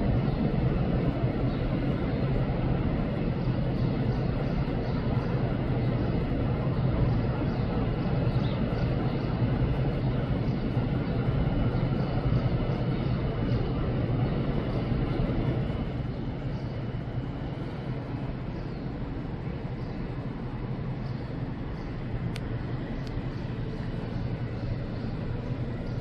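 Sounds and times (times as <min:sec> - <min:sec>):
low traffic engine rumble: 0:00.0 - 0:26.0.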